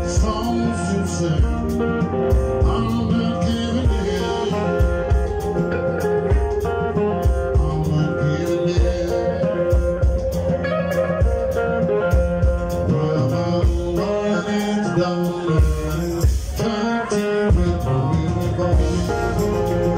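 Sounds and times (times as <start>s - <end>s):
bass guitar: 0.0s - 19.9s
electric guitar: 0.0s - 19.9s
steady drum beat: 0.0s - 19.9s.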